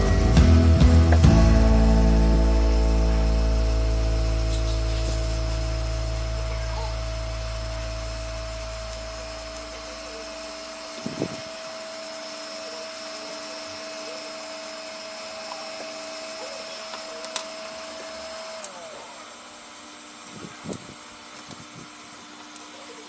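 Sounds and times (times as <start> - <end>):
low electrical hum: 0.0 - 23.0
power inverter whine: 0.0 - 23.0.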